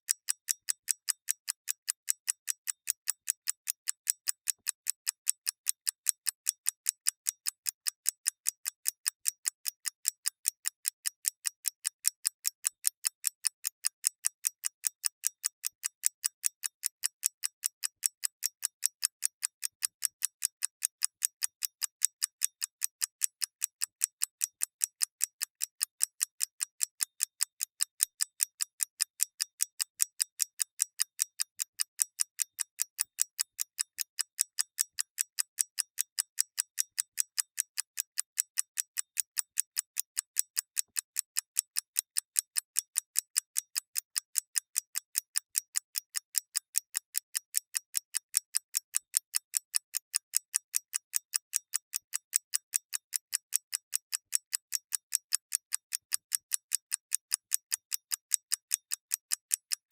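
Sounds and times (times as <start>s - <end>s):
clock ticking: 0.1s - 59.0s.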